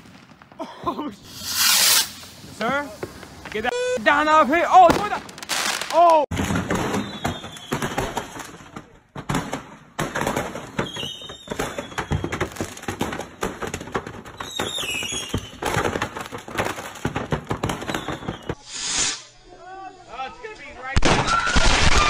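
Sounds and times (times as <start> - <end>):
fireworks crackling pops and bangs: 0.0 - 19.3, 20.9 - 22.0.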